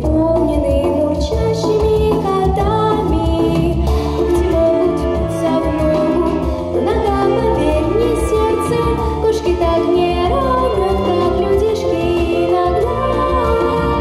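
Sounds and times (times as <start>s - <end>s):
girl singing into a microphone: 0.0s - 14.0s
instrumental accompaniment with bass: 0.0s - 14.0s.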